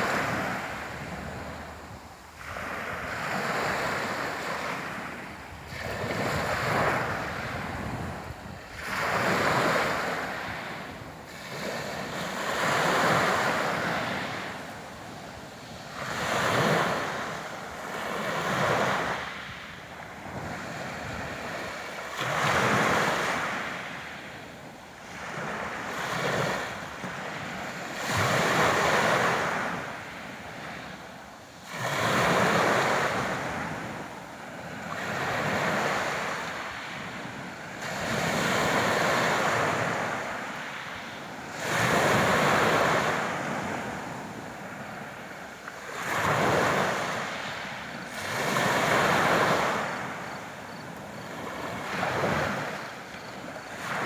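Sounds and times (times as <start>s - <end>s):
sea waves breaking: 0.0s - 24.3s, 31.6s - 54.0s.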